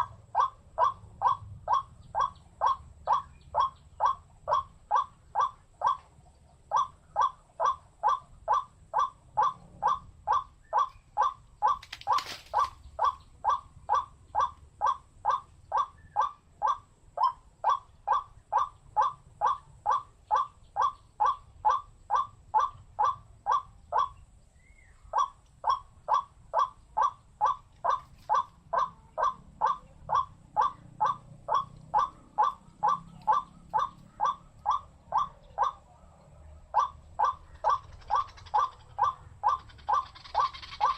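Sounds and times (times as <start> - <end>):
bird calling rhythmically: 0.0 - 40.9.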